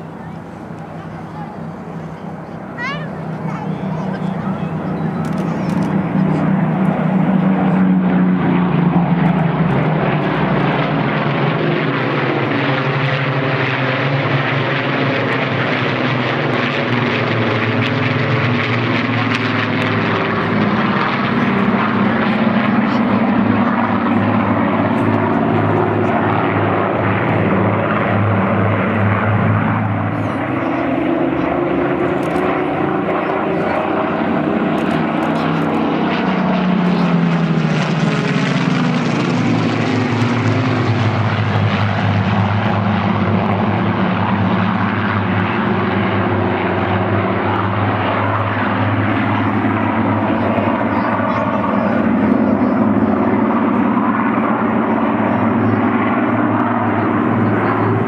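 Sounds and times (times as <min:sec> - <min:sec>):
piston aircraft engines droning overhead: 0:00.0 - 0:58.0.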